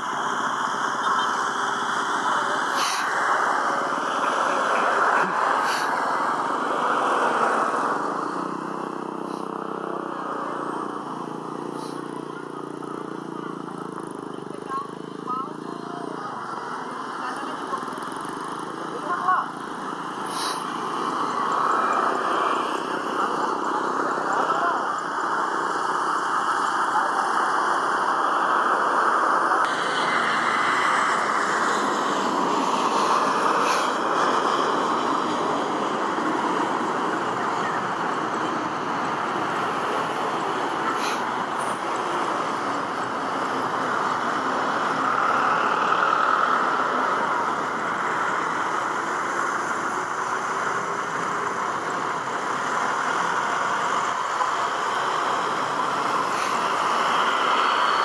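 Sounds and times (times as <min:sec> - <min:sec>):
jet engines at low thrust: 0:00.0 - 0:58.0.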